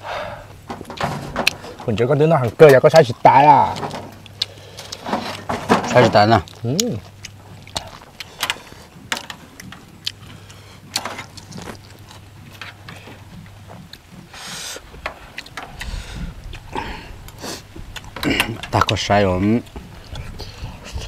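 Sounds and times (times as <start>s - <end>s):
chewing: 3.0s - 21.0s.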